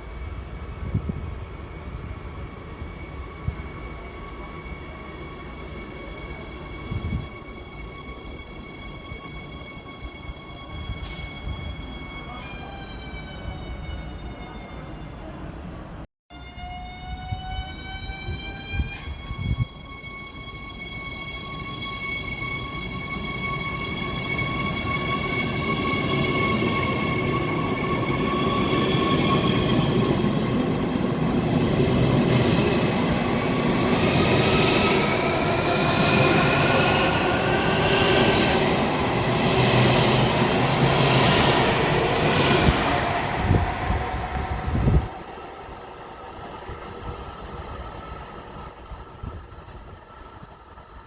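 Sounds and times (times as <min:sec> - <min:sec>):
train wheels rumbling on rail: 0:00.0 - 0:12.8, 0:17.1 - 0:51.0.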